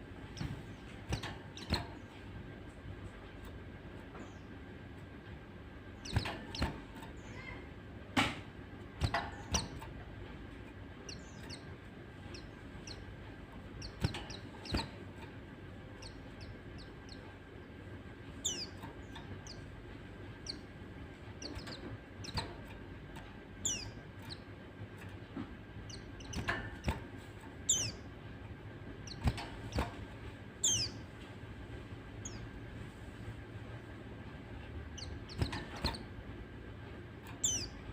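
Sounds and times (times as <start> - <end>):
birds chirping: 0.0 - 37.9
faint hum: 0.0 - 37.9.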